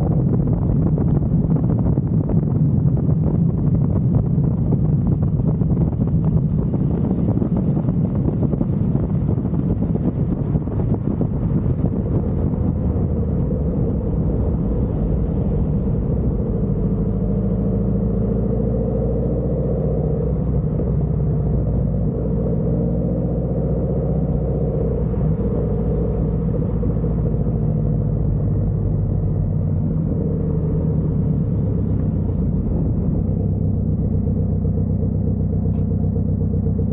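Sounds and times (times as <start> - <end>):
car exhaust rumble: 0.0 - 36.9.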